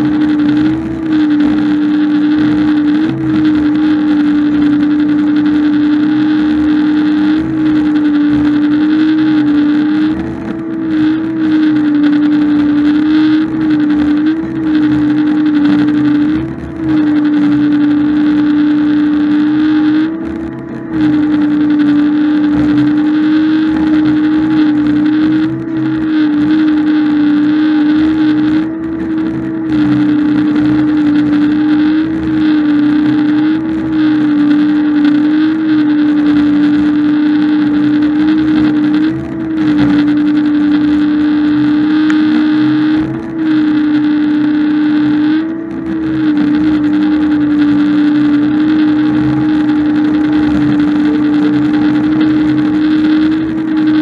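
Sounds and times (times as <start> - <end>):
loader engine running: 0.0 - 54.0.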